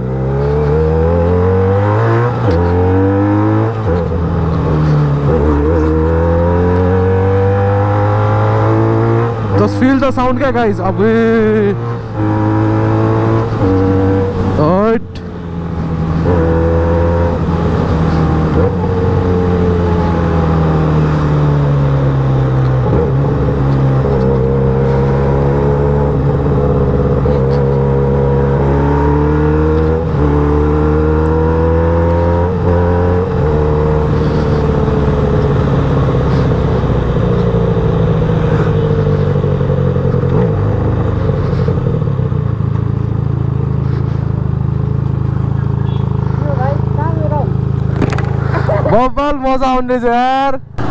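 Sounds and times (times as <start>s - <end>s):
motorcycle engine accelerating: 0.0s - 49.1s.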